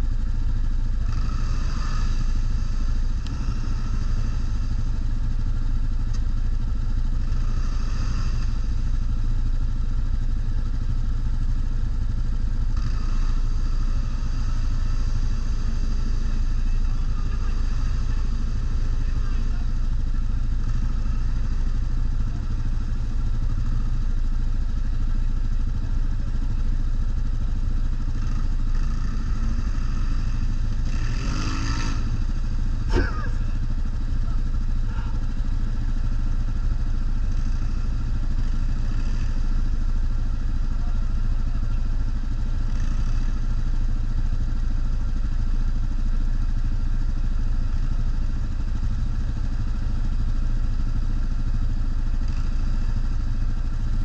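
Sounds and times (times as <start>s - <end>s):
quad bike engine running: 0.0s - 54.0s.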